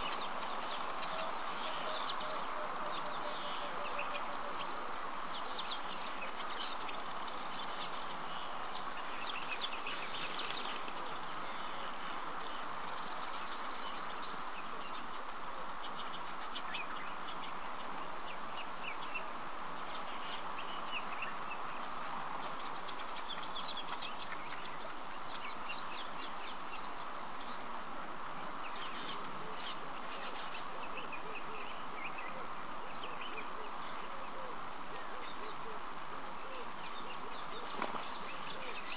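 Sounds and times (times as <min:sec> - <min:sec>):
small birds chirping: 0:00.0 - 0:38.9
steady hiss: 0:00.0 - 0:38.9.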